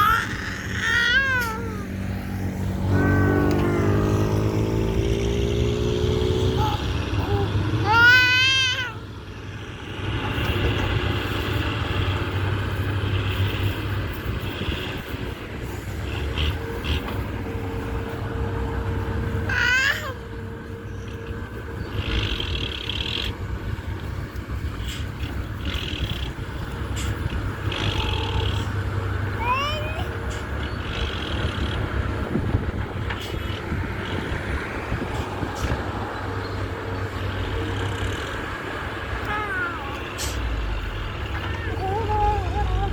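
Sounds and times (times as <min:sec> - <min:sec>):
diesel engine rumbling: 0:00.0 - 0:42.9.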